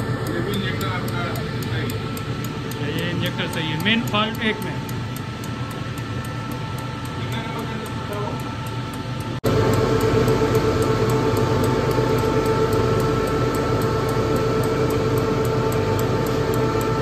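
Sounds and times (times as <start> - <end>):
machine humming with fast ticking: 0.0 - 17.0.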